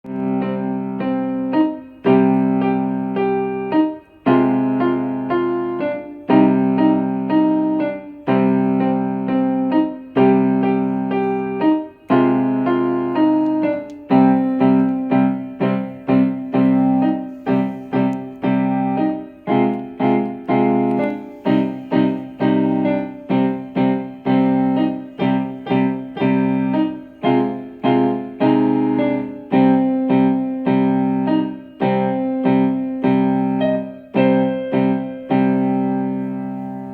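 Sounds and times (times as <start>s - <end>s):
solo piano piece: 0.0s - 36.9s.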